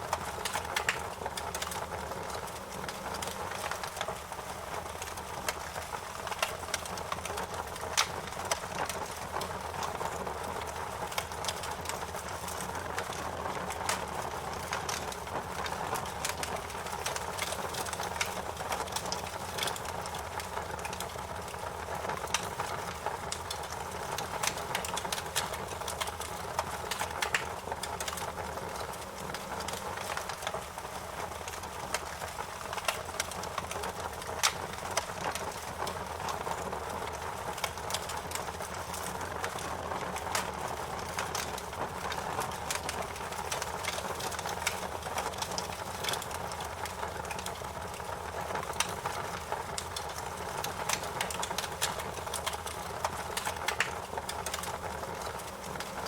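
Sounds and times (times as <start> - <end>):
crackling wood pops: 0.1 - 4.2, 4.8 - 56.0.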